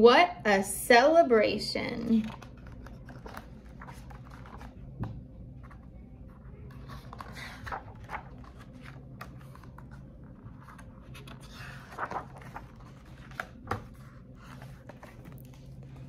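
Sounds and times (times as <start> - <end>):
low room hum: 0.0 - 16.0
pages rustling: 2.1 - 5.0, 5.6 - 16.0.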